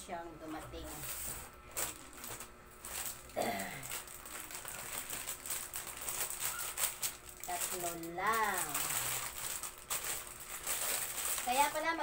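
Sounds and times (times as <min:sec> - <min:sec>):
plastic bags crinkling: 0:00.8 - 0:12.0.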